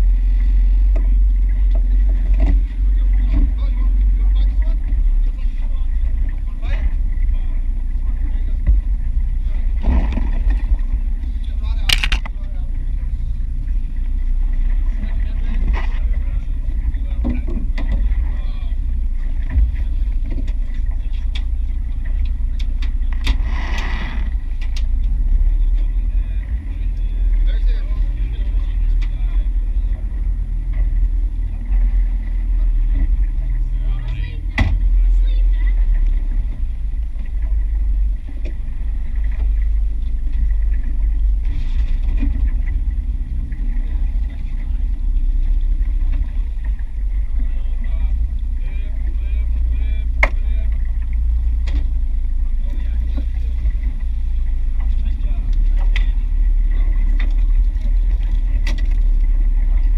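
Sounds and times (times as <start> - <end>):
boat low rumble: 0.0 - 59.9
outboard motor running: 0.0 - 59.9
wind buffeting microphone: 0.0 - 59.9.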